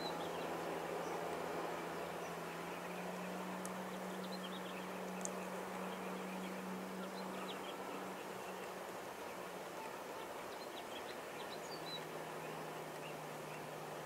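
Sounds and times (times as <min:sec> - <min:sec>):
distant boat engine hum: 0:00.0 - 0:14.0
wind: 0:00.0 - 0:14.0.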